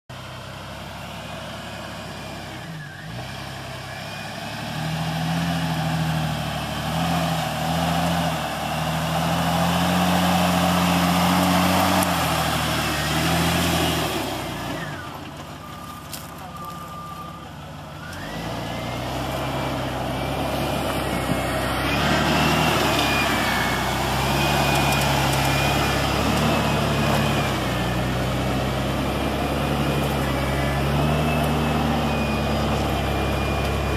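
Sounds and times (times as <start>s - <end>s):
off-road vehicle engine revving: 0.1s - 33.9s.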